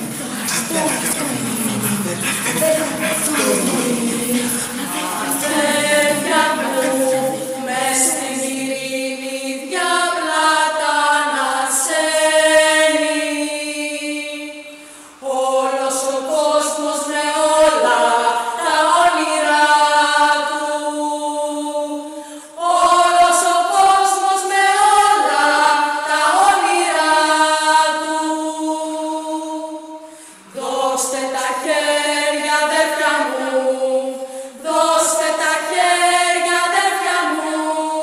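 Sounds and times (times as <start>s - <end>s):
unaccompanied singing: 0.0s - 38.0s.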